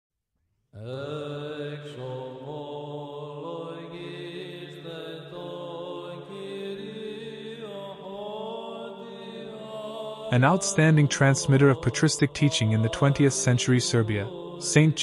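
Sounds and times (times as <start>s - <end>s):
voices chanting over drone: 0.8s - 15.0s.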